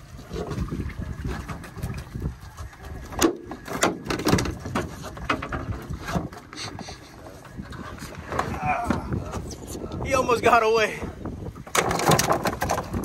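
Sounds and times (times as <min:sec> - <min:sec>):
low wind rumble on microphone: 0:00.0 - 0:13.0
knocks and clatter on metal boat: 0:00.2 - 0:09.5, 0:11.5 - 0:13.0.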